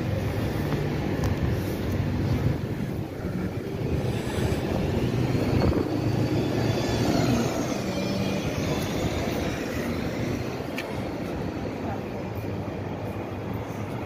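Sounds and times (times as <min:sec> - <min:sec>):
vehicle engine low rumble: 0:00.0 - 0:14.0.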